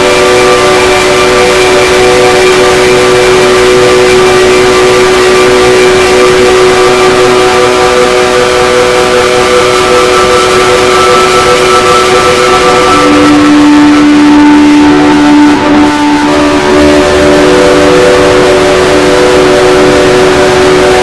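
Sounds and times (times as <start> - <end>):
motor rushing and whining: 0.0 - 21.0.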